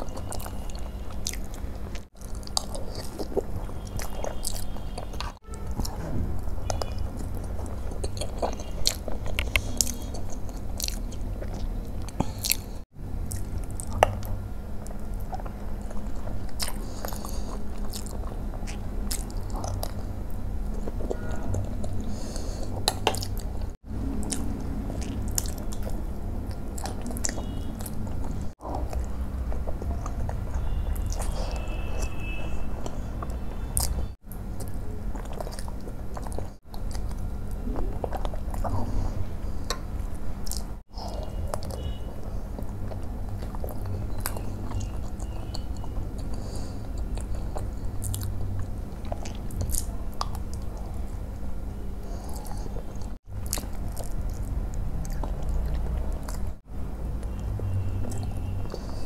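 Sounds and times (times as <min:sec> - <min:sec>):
soft wet chewing: 0:00.0 - 0:59.0.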